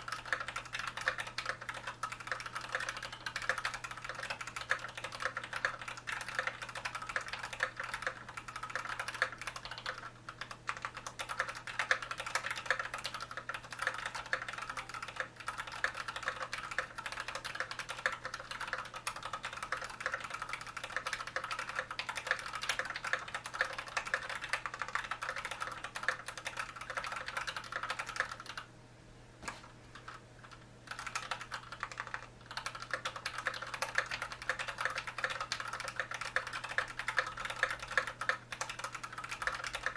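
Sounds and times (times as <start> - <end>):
fast typing on mechanical keyboard: 0.0 - 28.7, 29.9 - 39.9.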